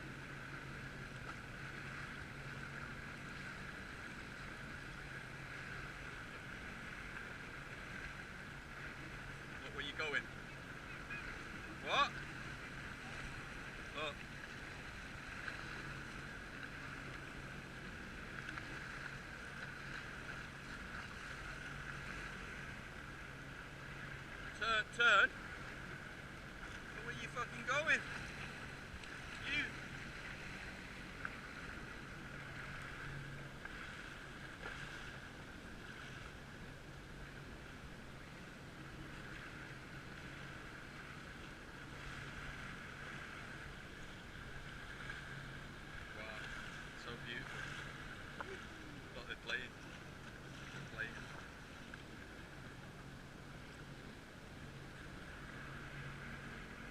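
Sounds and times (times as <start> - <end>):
jet ski engine humming: 0.0 - 56.9
water noise: 0.0 - 56.9
wind: 0.0 - 56.9.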